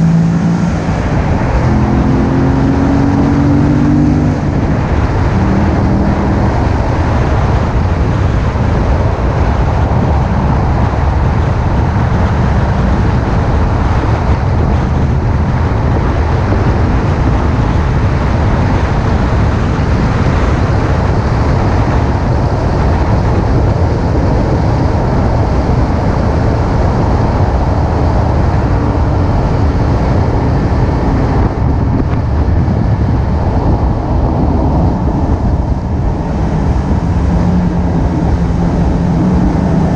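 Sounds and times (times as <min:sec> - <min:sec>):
wind and road noise rushing: 0:00.0 - 0:39.9.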